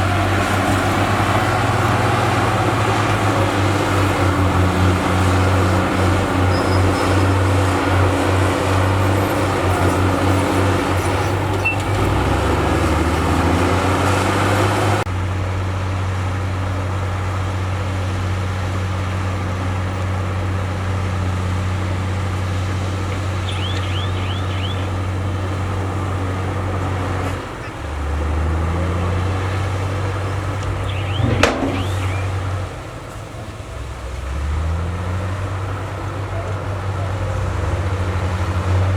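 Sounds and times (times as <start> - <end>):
diesel machinery engine hum: 0.0 - 38.9.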